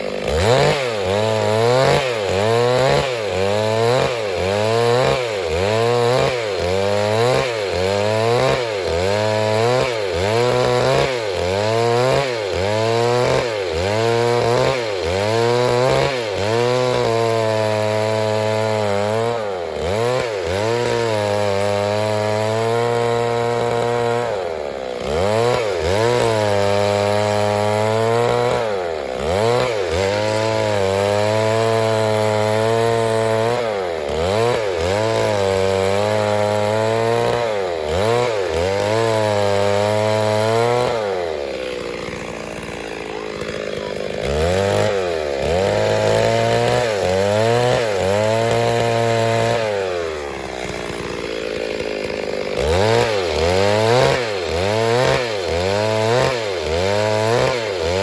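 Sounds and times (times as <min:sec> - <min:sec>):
chainsaw running at high revs: 0:00.0 - 0:58.0.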